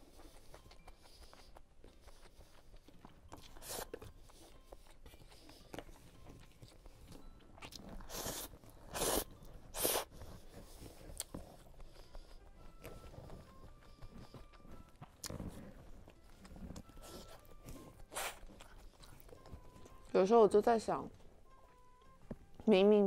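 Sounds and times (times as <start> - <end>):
chewing and mouth sounds: 0.0 - 22.7.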